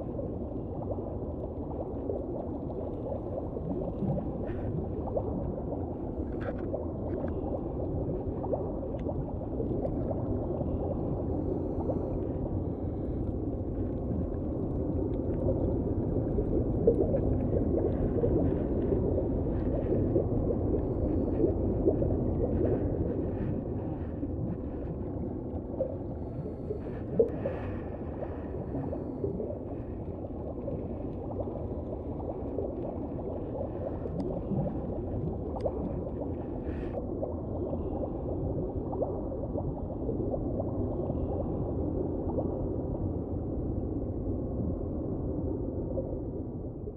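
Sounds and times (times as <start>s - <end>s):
underwater rumbling water noise: 0.0s - 46.9s.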